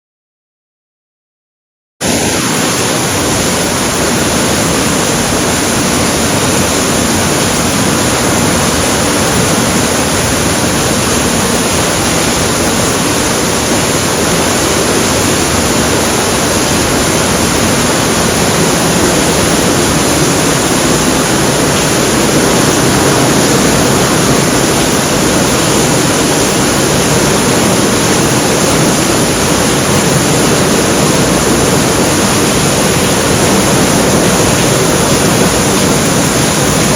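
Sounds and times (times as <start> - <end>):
heavy rain pouring: 2.0 - 36.9.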